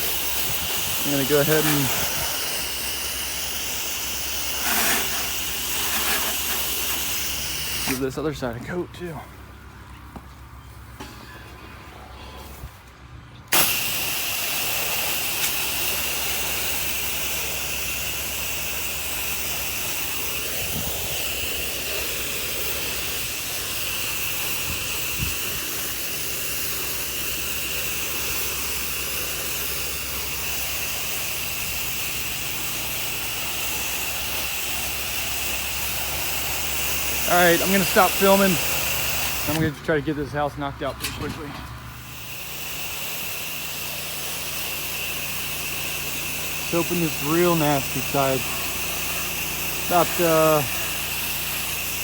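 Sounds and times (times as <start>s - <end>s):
pressure washer spray hiss: 0.0s - 8.3s, 13.5s - 40.5s, 41.9s - 52.0s.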